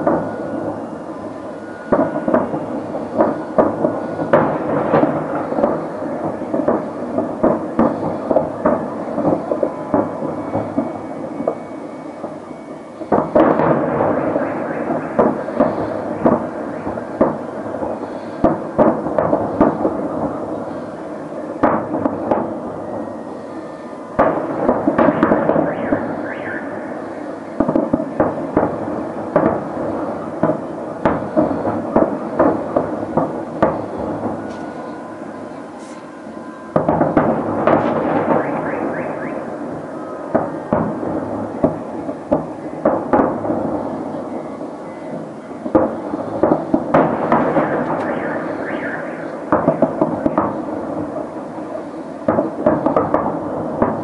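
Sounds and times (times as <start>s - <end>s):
firework bangs and crackling: 0.0s - 54.0s.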